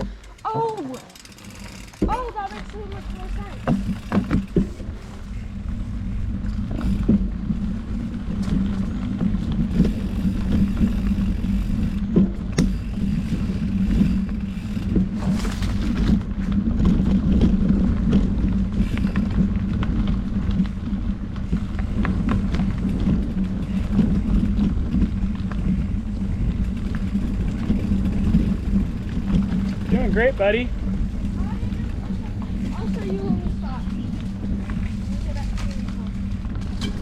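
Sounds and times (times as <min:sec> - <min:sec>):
bike knocks and rattles: 0:00.0 - 0:37.0
bike tyre rumble on dirt: 0:00.0 - 0:37.0.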